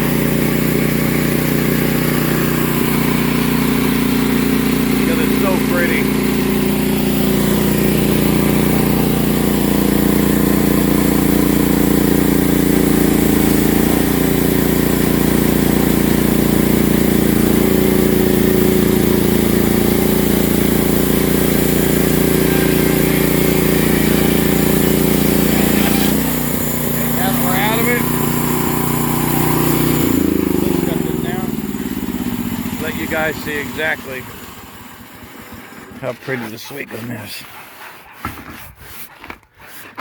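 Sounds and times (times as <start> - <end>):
sawmill engine running: 0.0 - 39.0
saw blade cutting log: 0.0 - 40.0.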